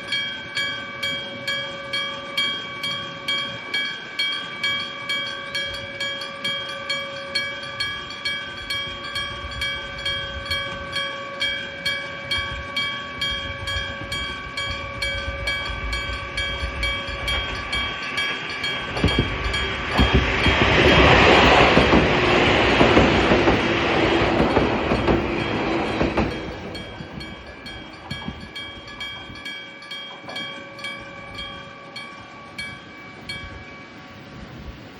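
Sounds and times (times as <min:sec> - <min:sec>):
level crossing warning bell: 0:00.0 - 0:34.9
train wheels on rails: 0:00.0 - 0:34.9.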